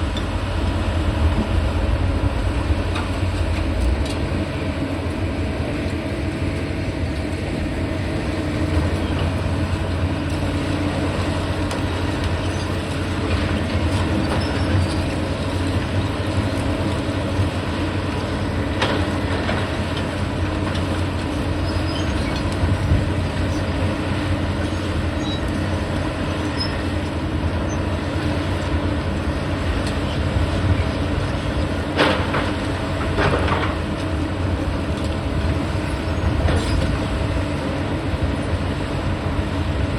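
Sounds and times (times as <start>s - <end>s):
diesel demolition machinery rumbling: 0.0s - 39.9s.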